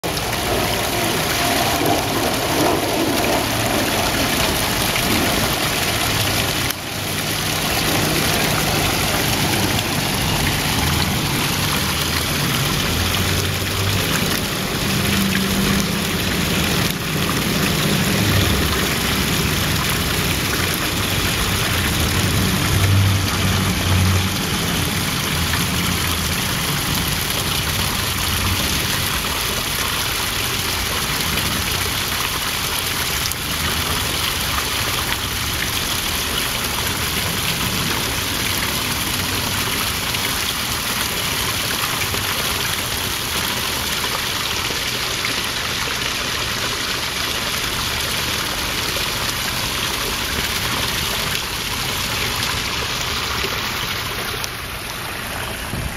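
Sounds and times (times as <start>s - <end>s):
waterfall splashing into pond: 0.0s - 55.9s.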